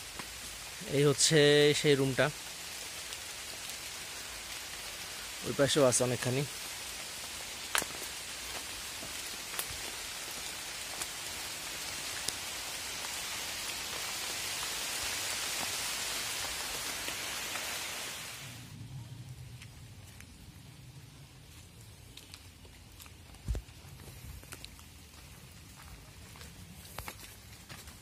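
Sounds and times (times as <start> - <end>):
steady hiss like rain: 0.0 - 28.0.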